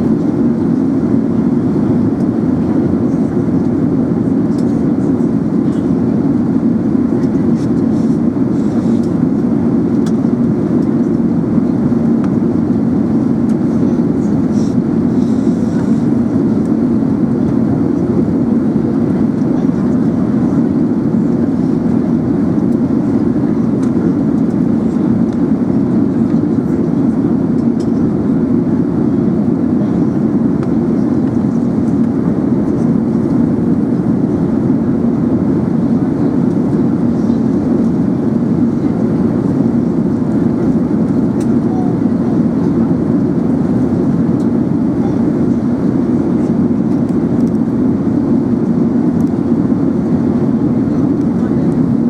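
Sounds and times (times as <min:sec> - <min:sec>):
airplane cabin engine drone: 0:00.0 - 0:52.0.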